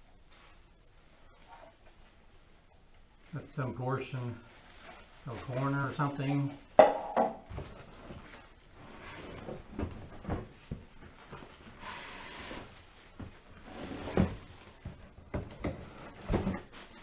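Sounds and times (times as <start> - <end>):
plastic wrapping rustling: 0.0 - 17.0.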